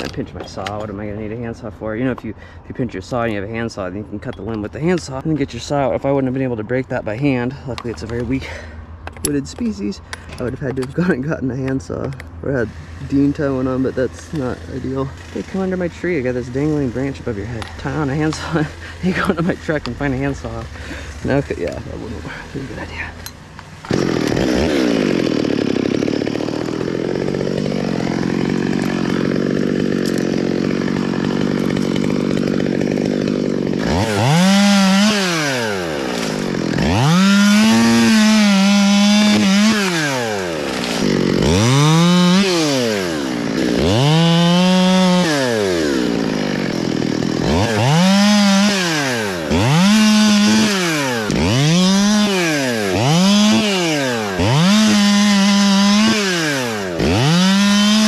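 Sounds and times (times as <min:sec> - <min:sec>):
chainsaw cutting and revving: 0:04.8 - 0:58.0.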